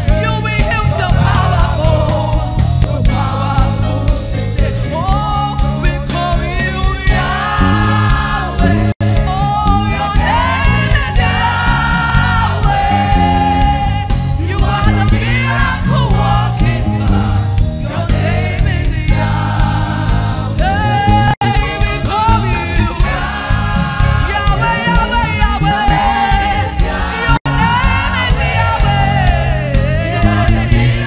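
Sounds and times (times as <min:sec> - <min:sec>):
band with electric bass: 0:00.0 - 0:31.0.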